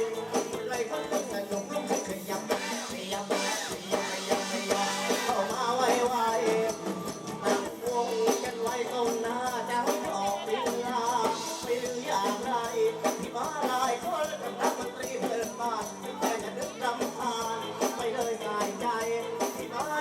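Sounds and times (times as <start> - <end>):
live band music: 0.0 - 20.0
percussion beat: 0.0 - 20.0.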